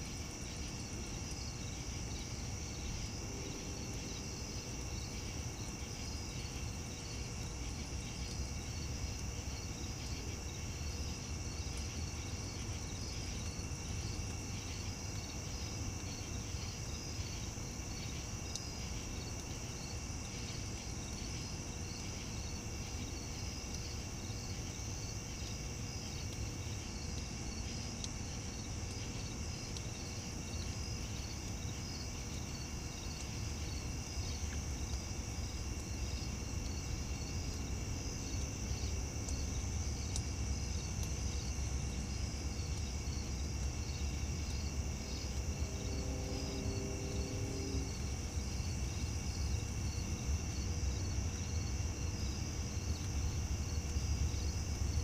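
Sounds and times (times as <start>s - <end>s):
insect chirping pulse: 0.0s - 55.0s
insects trilling: 0.0s - 55.0s
low steady rumble: 0.0s - 55.0s.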